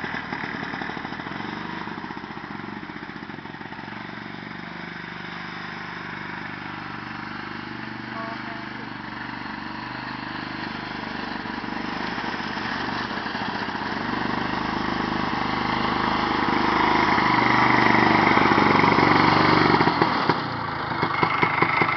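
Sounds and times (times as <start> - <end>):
snowmobile engine running: 0.0 - 21.9.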